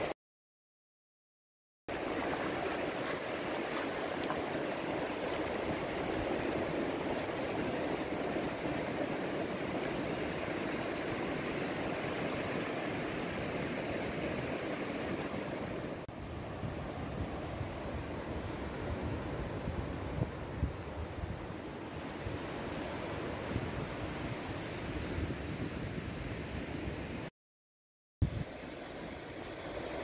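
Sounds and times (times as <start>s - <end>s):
sea surf on a beach: 1.9s - 27.3s, 28.2s - 30.0s.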